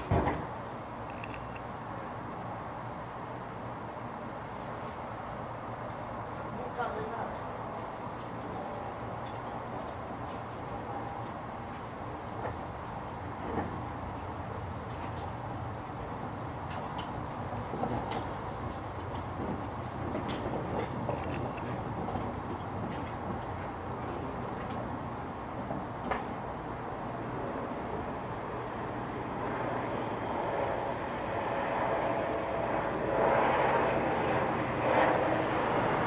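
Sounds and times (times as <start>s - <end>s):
high-pitched insect trill: 0.5s - 16.6s, 20.8s - 36.0s.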